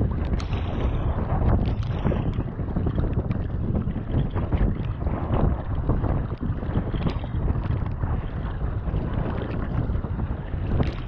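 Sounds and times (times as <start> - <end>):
paddle strokes splashing: 0.0 - 11.0
waves slapping a hull: 0.0 - 11.0
wind buffeting microphone: 0.0 - 11.0.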